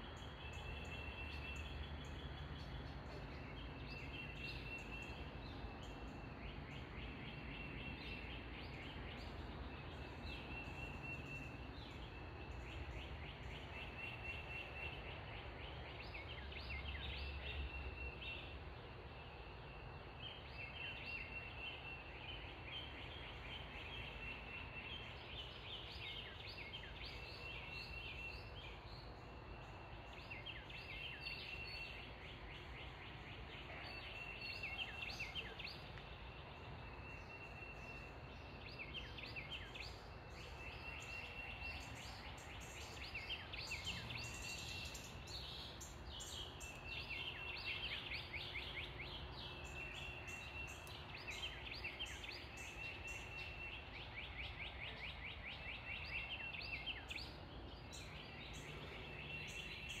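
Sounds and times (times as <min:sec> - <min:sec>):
songbirds singing: 0:00.0 - 1:00.0.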